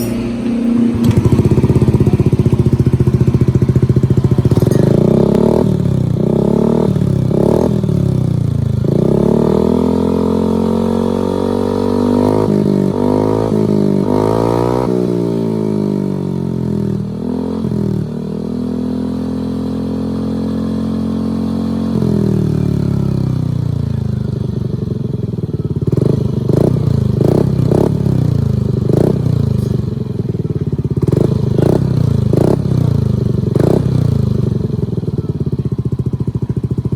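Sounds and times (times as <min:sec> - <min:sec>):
scooter engine revving and idling: 0:00.0 - 0:36.9.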